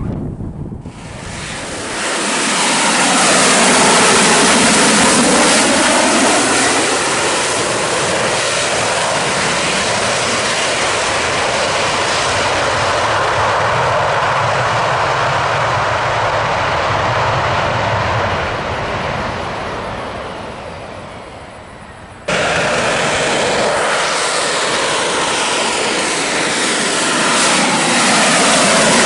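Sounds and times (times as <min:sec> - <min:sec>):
jet engine roar with high whine: 0:00.0 - 0:29.0.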